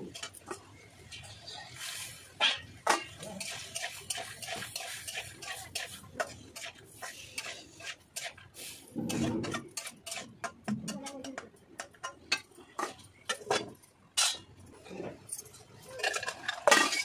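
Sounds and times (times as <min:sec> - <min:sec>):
metal spatula scraping a wok: 0:00.0 - 0:17.0.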